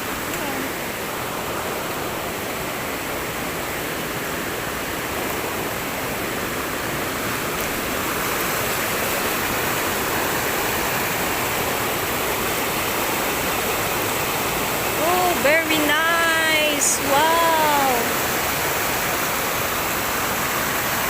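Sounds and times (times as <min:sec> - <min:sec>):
mountain stream rushing: 0:00.0 - 0:21.0.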